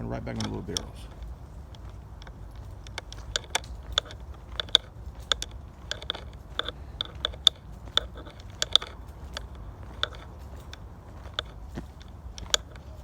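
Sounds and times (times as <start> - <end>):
footsteps crunching on dirt trail: 0.0 - 13.0
low steady rumble: 0.0 - 13.0.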